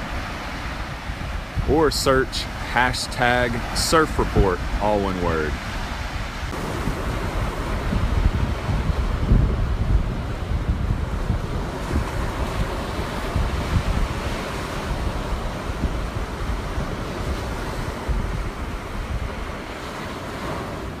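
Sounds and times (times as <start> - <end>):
waves breaking on beach: 0.0 - 21.0
wind buffeting microphone: 0.0 - 21.0.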